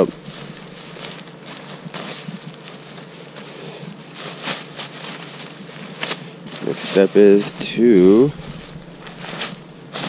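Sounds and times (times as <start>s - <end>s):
nylon tent fabric rustling: 0.0s - 10.0s.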